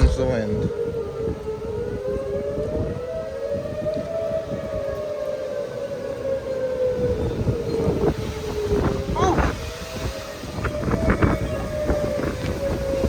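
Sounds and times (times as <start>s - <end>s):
gusting wind: 0.0s - 13.0s
warning siren wailing: 0.0s - 13.0s.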